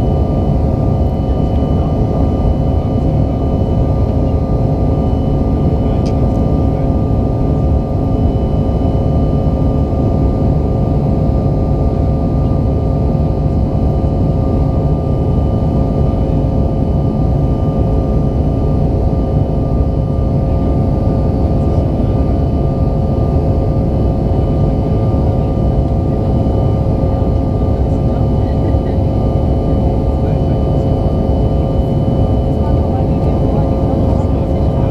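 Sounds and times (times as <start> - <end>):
aircraft cabin engine drone: 0.0 - 34.9.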